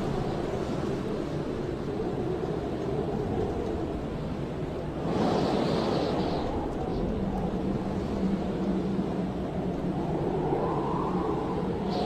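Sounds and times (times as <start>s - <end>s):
blizzard wind howling: 0.0s - 12.0s.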